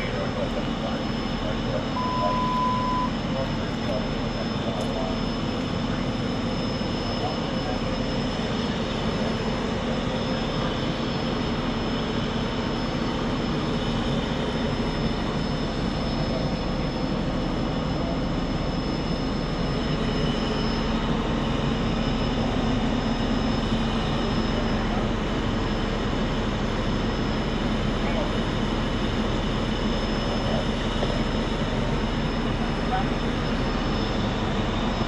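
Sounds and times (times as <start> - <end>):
mechanical drone with high whine: 0.0 - 35.0.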